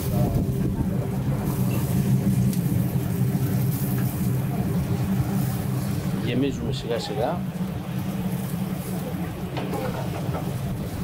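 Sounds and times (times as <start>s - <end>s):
rotisserie motor humming: 0.0s - 11.0s.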